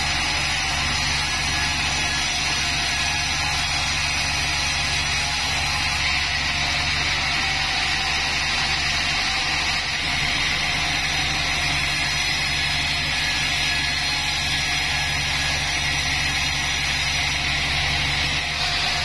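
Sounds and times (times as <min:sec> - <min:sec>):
sawmill machine hum and hiss: 0:00.0 - 0:19.0.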